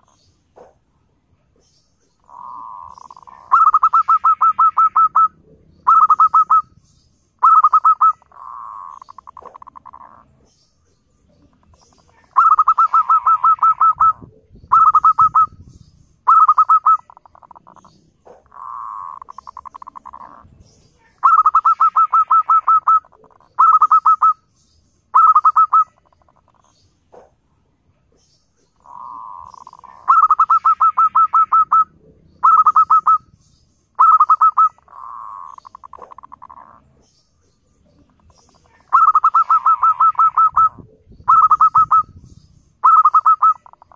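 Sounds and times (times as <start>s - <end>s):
dove cooing: 2.2s - 6.8s, 7.4s - 10.3s, 11.6s - 24.4s, 25.1s - 27.3s, 28.8s - 33.4s, 34.0s - 37.0s, 38.1s - 43.9s.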